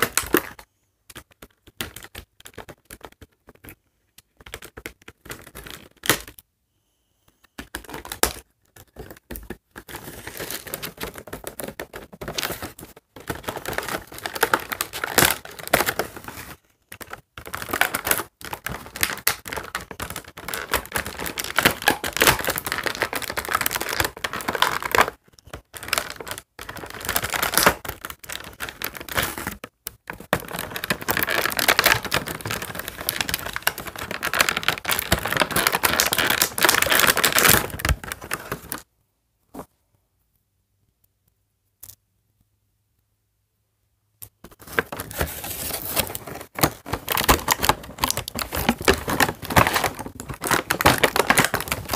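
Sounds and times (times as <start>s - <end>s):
plastic and cardboard crinkling: 0.0s - 6.4s, 7.5s - 38.9s, 44.3s - 51.9s.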